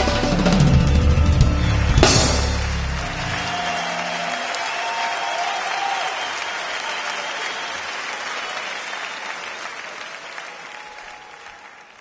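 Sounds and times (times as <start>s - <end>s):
audience applause: 1.4s - 12.0s.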